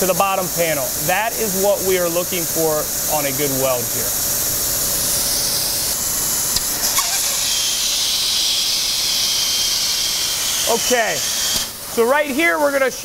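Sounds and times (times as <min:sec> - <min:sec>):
welding machine air hiss: 0:00.0 - 0:12.7.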